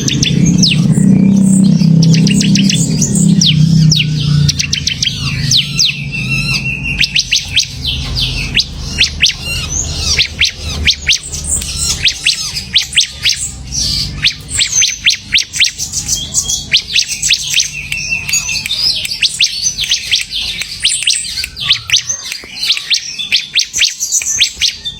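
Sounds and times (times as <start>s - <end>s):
low steady hum: 0.0s - 22.8s
bird chirping and trilling: 0.0s - 24.9s.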